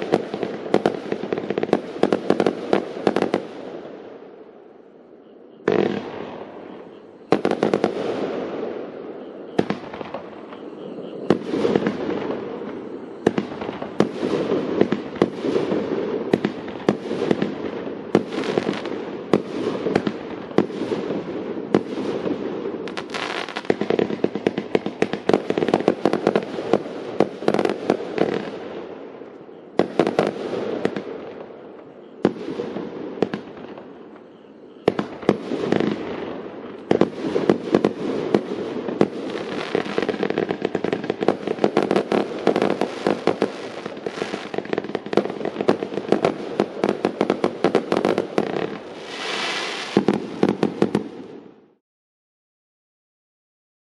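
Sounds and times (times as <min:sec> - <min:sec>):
fireworks crackling: 0:00.0 - 0:04.7, 0:05.6 - 0:51.8
fireworks launching and bursting: 0:00.0 - 0:04.8, 0:05.6 - 0:51.8.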